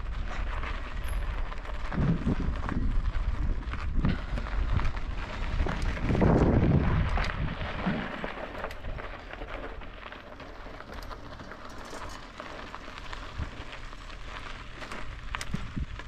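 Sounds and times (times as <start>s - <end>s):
bicycle tyres crackling on dirt: 0.0s - 16.0s
low steady rumble: 0.0s - 16.0s.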